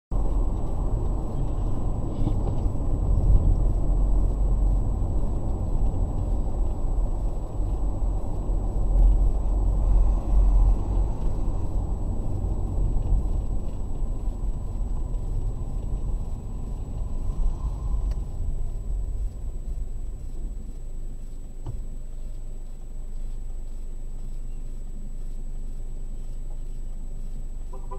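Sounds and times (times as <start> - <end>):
car road and engine rumble: 0.1 - 27.9.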